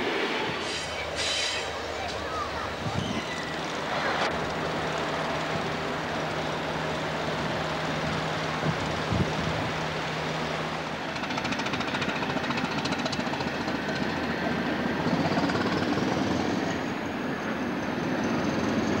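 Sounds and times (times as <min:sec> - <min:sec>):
diesel railcar engine: 0:00.0 - 0:19.0.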